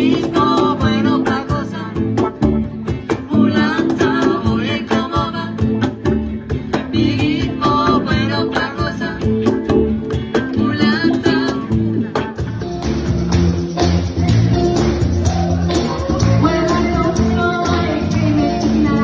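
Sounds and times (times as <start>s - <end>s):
band music with singing: 0.0s - 19.0s.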